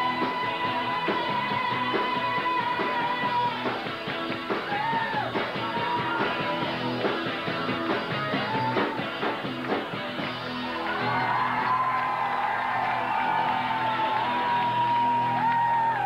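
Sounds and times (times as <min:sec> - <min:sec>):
drums: 0:00.0 - 0:16.0
electric guitars: 0:00.0 - 0:16.0.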